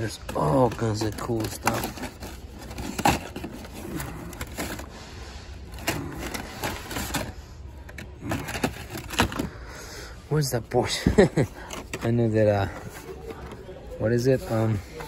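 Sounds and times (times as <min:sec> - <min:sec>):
toy cars clacking and rustling: 0:00.0 - 0:09.6, 0:11.1 - 0:15.0.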